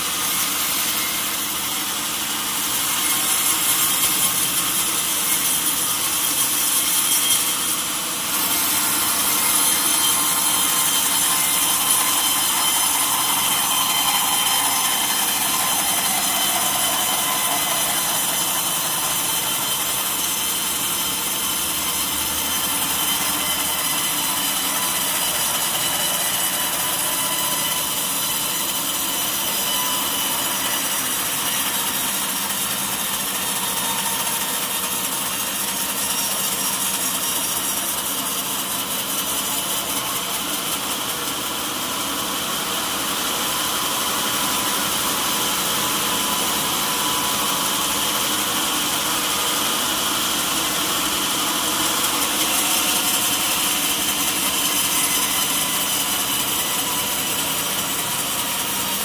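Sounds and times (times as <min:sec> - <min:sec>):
sawmill saw cutting log: 0:00.0 - 0:59.0.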